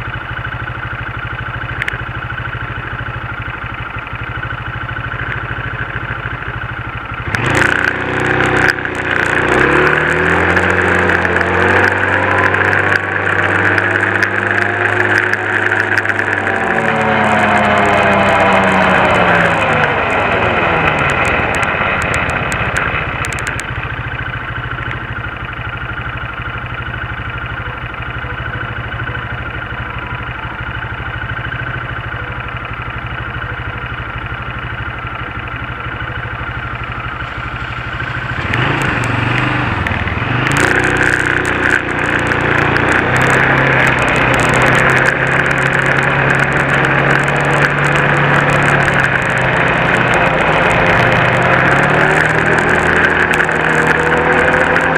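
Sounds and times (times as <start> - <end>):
quad engine idling and revving: 0.0 - 54.9.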